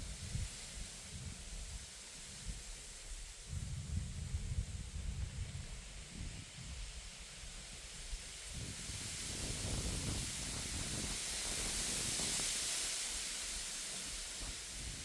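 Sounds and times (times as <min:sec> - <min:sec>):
wind rumble on microphone: 0:00.0 - 0:15.0
wind rustling through reeds: 0:00.0 - 0:15.0.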